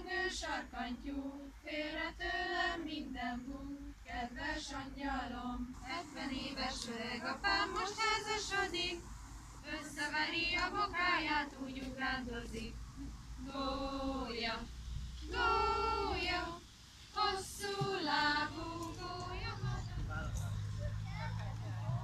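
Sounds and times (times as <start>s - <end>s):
women singing unaccompanied: 0.0s - 20.8s.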